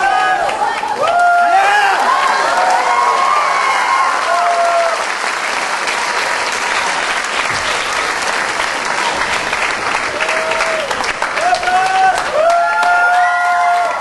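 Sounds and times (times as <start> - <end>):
audience clapping: 0.0 - 14.0
people cheering: 0.0 - 14.0.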